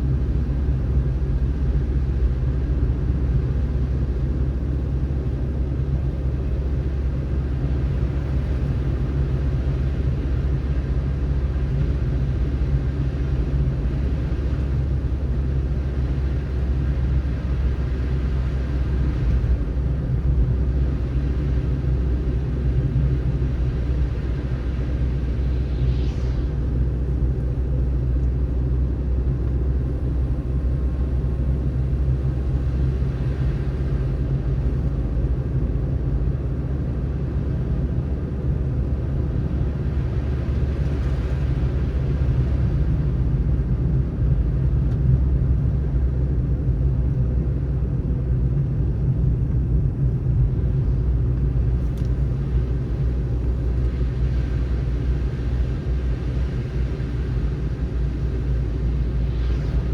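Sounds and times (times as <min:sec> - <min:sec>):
car tyres and engine rumbling: 0:00.0 - 0:59.9.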